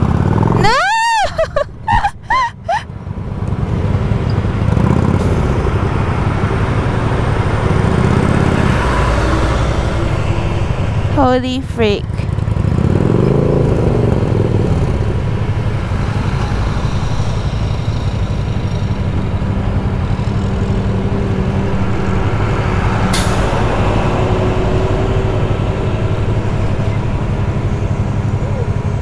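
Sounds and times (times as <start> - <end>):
vehicle engines in traffic: 0.0 - 29.0.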